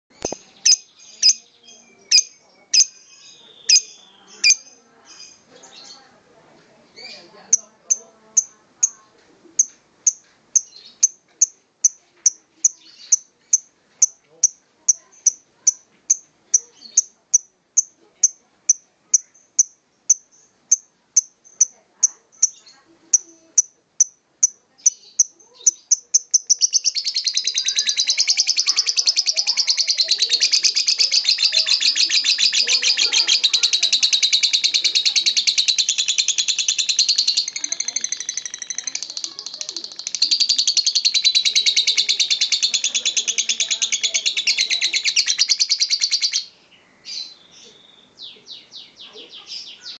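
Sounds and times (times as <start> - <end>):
bird chirping and trilling: 0.1 - 6.0, 9.6 - 49.9.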